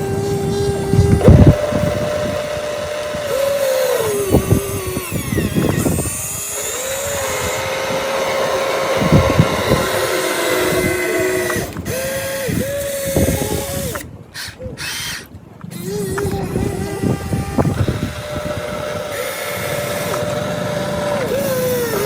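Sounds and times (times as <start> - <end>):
electric pump motor whining: 0.0 - 22.0.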